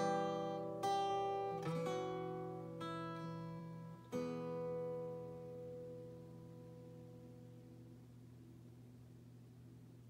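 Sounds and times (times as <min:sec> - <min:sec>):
acoustic guitar chords: 0:00.0 - 0:08.4.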